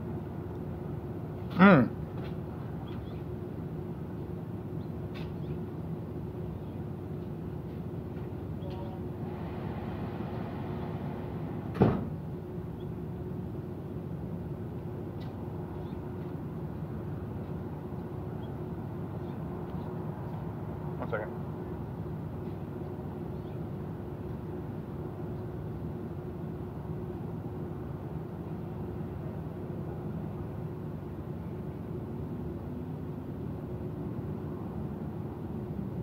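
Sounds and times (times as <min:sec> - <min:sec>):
machine-like room hum: 0:00.0 - 0:36.0.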